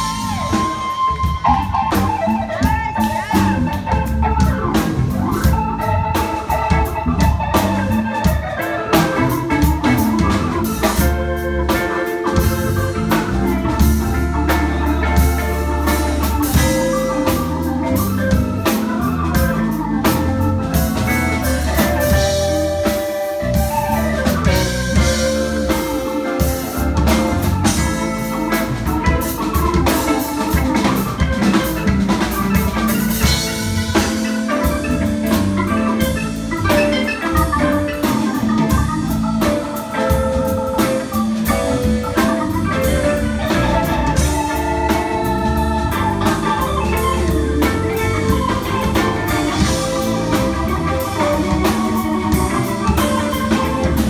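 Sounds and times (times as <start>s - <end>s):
bass guitar: 0.0s - 54.0s
drum kit: 0.0s - 54.0s
electric guitar: 0.0s - 54.0s
electric organ: 0.0s - 54.0s.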